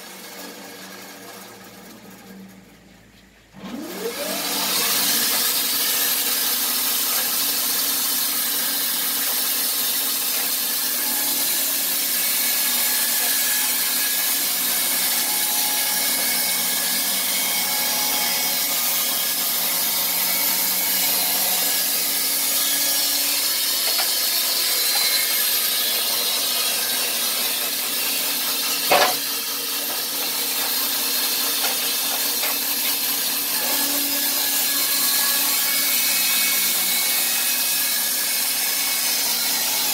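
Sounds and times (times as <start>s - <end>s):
sawmill motor hum: 0.0s - 39.9s
band blade cutting wood: 3.8s - 39.9s.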